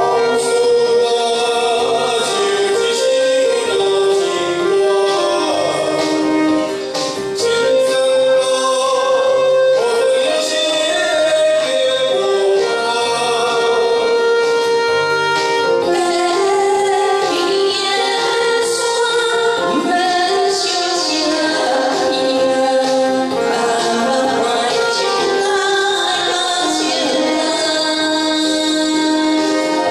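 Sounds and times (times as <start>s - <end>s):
man and woman singing duet: 0.0s - 14.4s, 15.8s - 29.9s
karaoke backing track: 0.0s - 29.9s.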